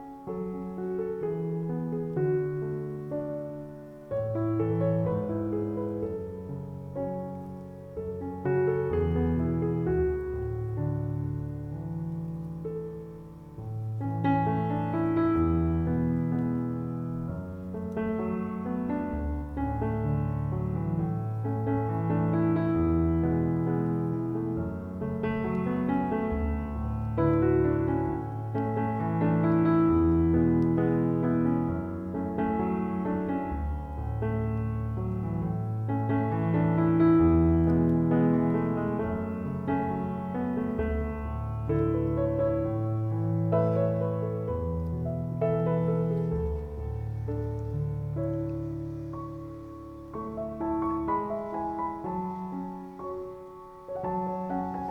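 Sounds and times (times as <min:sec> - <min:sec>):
slow piano chords: 0:00.0 - 0:54.9.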